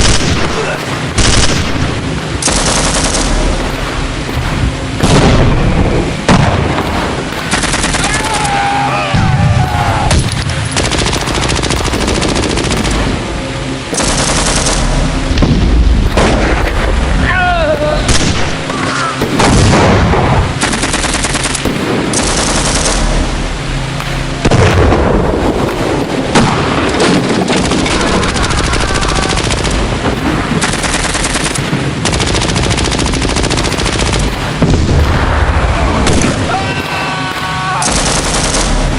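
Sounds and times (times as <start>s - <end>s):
heavy boom: 0.0s - 8.3s, 14.8s - 20.9s, 21.6s - 38.9s
machine-gun bursts: 0.0s - 8.6s, 9.6s - 15.4s, 20.5s - 24.6s, 25.6s - 35.4s, 36.0s - 38.9s.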